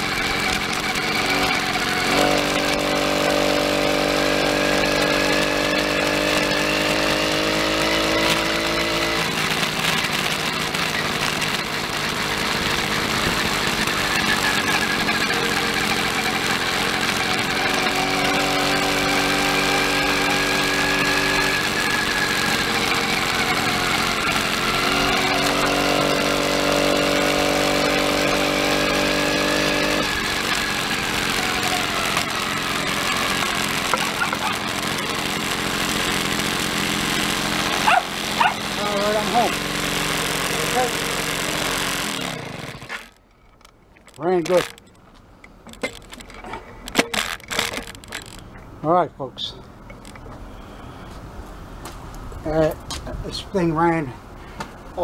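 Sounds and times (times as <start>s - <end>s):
small motorbike engine running: 0.0s - 45.0s, 45.6s - 48.6s
wind and road noise: 0.0s - 55.0s.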